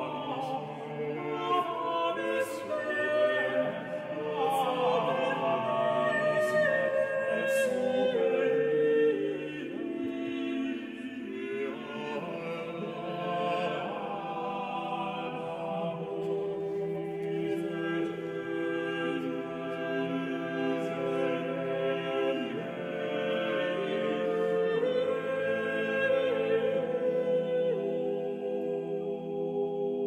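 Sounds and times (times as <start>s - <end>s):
choir singing slow chords: 0.0s - 30.0s.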